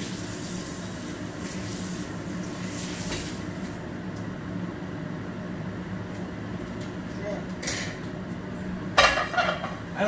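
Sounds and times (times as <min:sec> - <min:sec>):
kitchen fan humming: 0:00.0 - 0:10.0.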